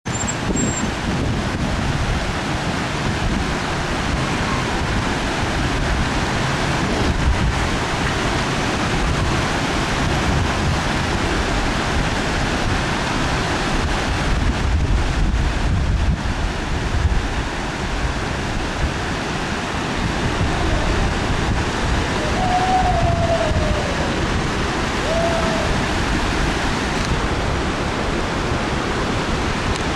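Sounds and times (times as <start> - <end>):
mountain stream rushing: 0.1 - 29.9
wind buffeting microphone: 0.1 - 29.9.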